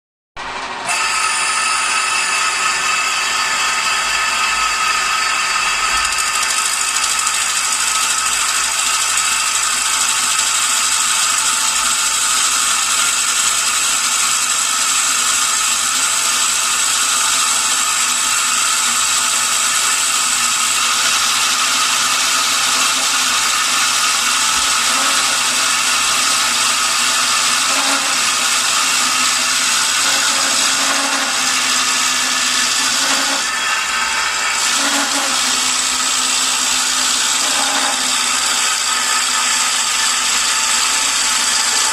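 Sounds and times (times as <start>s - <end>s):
metal lathe whining: 0.4s - 41.9s.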